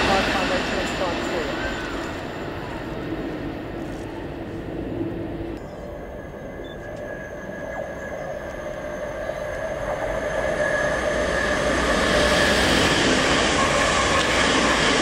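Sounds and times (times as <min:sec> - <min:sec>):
electric train approaching: 0:00.0 - 0:15.0
high whine: 0:00.0 - 0:15.0.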